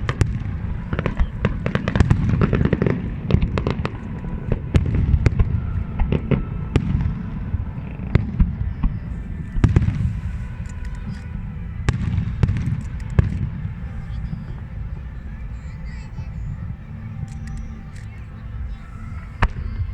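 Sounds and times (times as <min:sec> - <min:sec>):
low rumble of shell bursts: 0:00.0 - 0:19.9.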